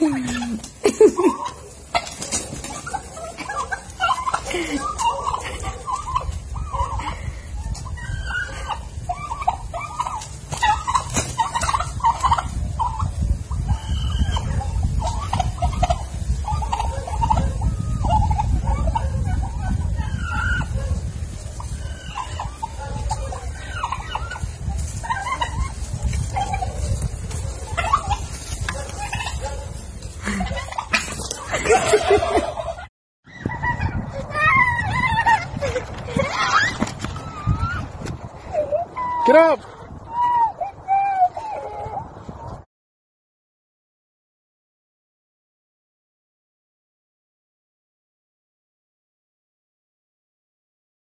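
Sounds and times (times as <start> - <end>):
poultry clucking: 0.0 - 42.6.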